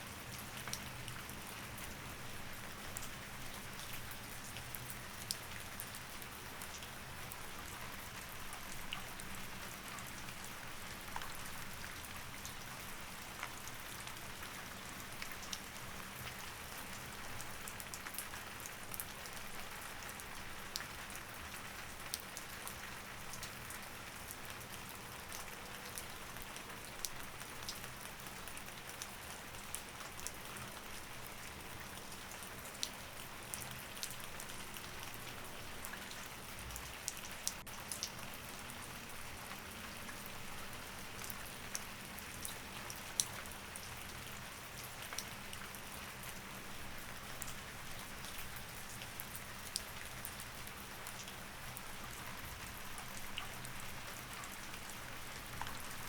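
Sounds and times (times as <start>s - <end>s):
rain pattering: 0.1s - 56.0s.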